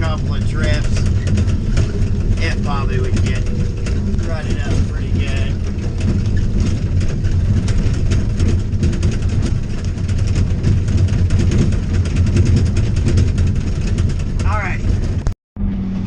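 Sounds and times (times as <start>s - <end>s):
rain ticking: 0.0s - 15.3s
diesel engine droning: 0.0s - 16.0s.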